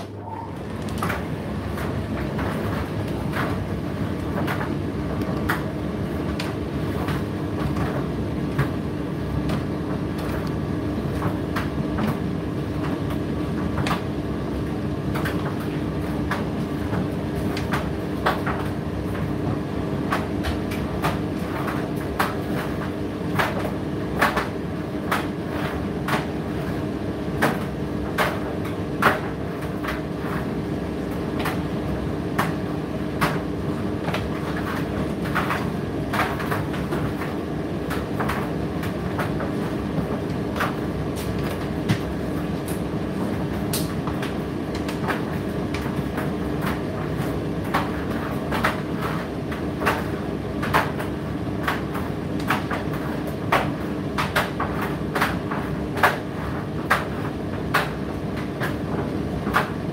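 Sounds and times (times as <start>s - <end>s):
tumble dryer motor and fan hum: 0.0s - 59.9s.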